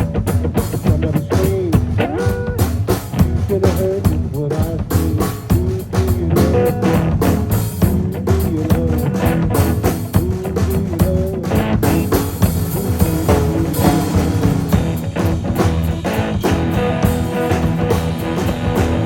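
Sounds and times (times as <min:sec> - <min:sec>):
bending guitar lead: 0:00.0 - 0:19.0
live blues-rock band: 0:00.0 - 0:19.0.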